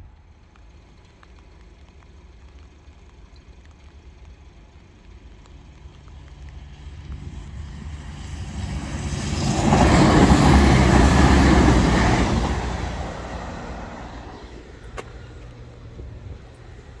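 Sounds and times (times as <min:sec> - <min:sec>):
diesel train passing: 0:00.0 - 0:17.0
train wheel noise: 0:00.0 - 0:17.0.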